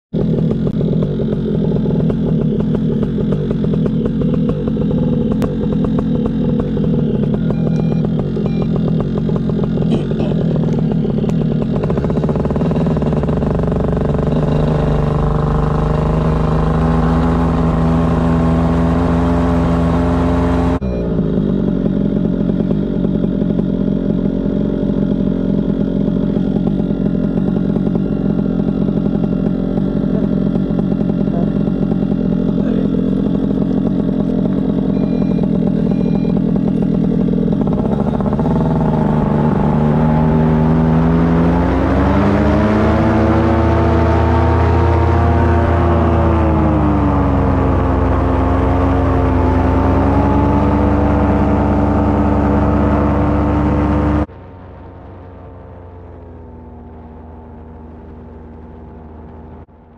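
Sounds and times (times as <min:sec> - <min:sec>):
paramotor engine running: 0:00.1 - 0:59.9.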